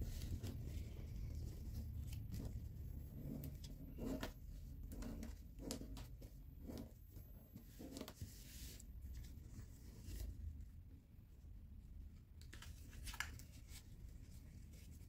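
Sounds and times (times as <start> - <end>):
paper being folded and creased: 0.0 - 10.4, 12.4 - 15.0.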